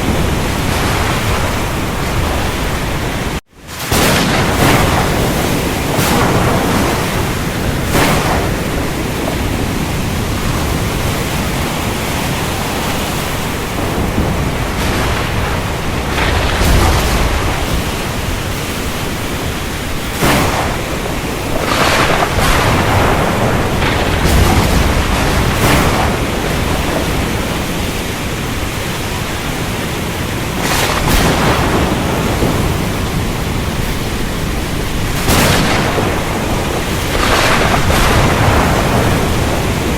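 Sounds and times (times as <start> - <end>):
sharp thunder cracks: 0.0 - 29.5, 30.5 - 39.9
rain hiss: 0.0 - 39.9
thunder rumbling: 0.0 - 39.9.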